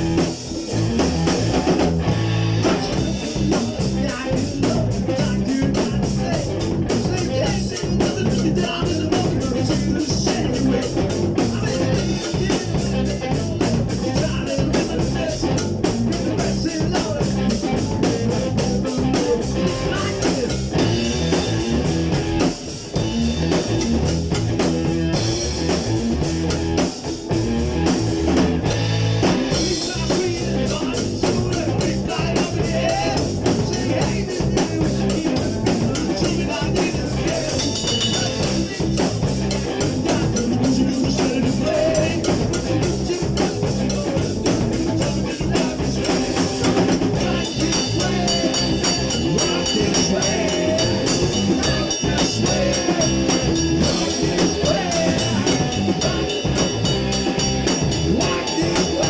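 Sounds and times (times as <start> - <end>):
drum kit steady beat: 0.0 - 59.0
rock guitar: 0.0 - 59.0
person singing: 2.6 - 20.9, 29.5 - 59.0.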